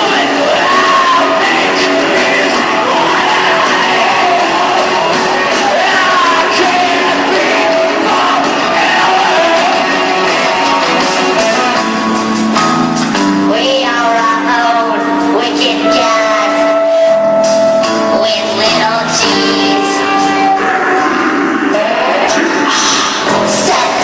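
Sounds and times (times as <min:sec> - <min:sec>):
person singing: 0:00.0 - 0:11.8, 0:13.4 - 0:24.0
live rock band playing: 0:00.0 - 0:24.0.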